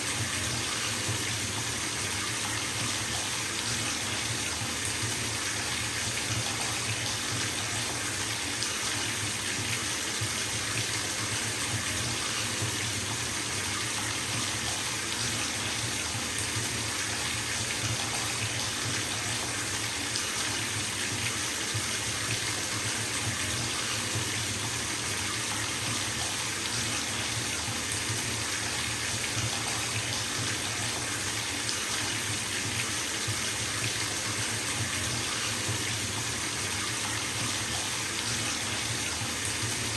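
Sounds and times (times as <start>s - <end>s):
water running into bathtub: 0.0s - 39.9s.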